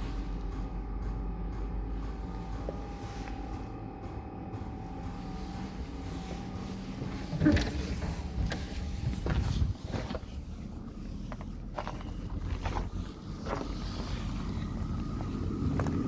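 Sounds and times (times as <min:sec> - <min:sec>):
diesel air heater humming: 0:00.0 - 0:16.0.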